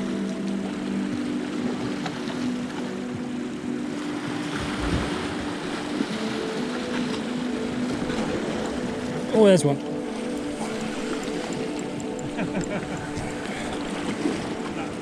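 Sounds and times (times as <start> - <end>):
surf washing against rocks: 0.0 - 15.0
wind: 0.0 - 15.0.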